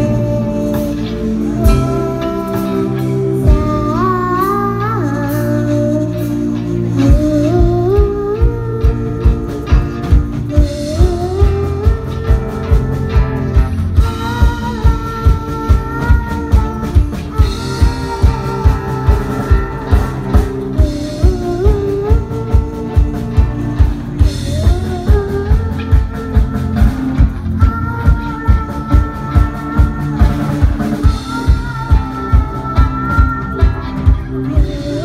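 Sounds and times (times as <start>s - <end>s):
girl singing into microphone: 0.0s - 35.0s
keyboard: 0.0s - 35.0s
steady drum beat: 6.2s - 35.0s.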